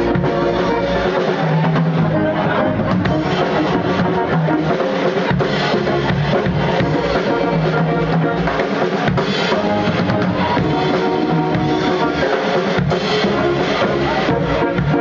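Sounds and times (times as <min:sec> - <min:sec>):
bass drum and snare: 0:00.0 - 0:15.0
live band playing: 0:00.0 - 0:15.0.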